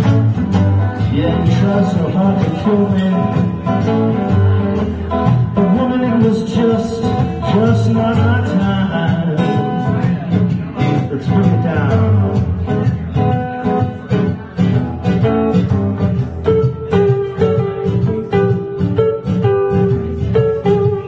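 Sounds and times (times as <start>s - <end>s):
acoustic guitar strumming: 0.0s - 21.0s
electric guitar lead: 0.0s - 21.0s.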